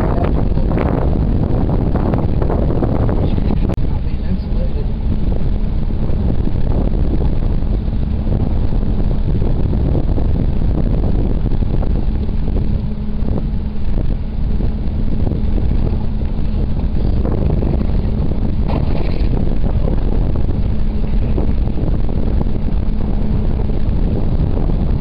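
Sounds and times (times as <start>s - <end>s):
engine running: 0.0s - 25.0s
wind rumble on microphone: 0.0s - 25.0s.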